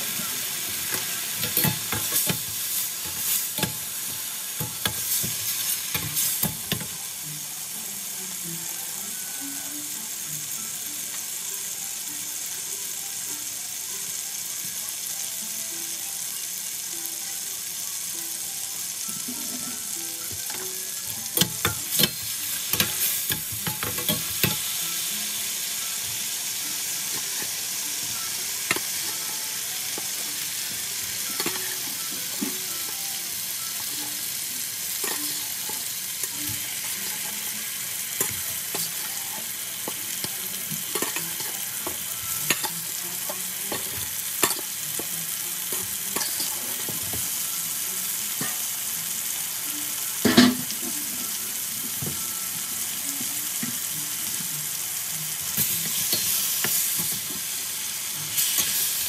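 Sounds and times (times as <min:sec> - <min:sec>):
gravy sizzling in a pan: 0:00.0 - 0:59.0.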